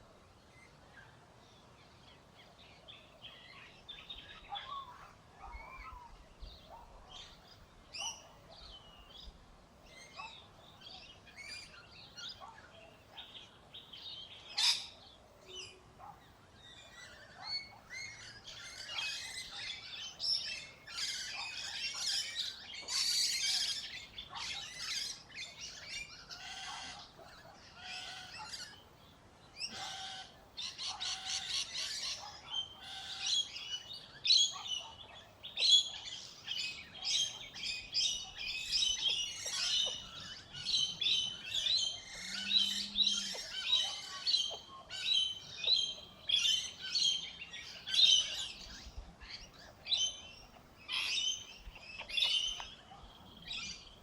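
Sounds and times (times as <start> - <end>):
birds chirping: 10.0 - 54.0.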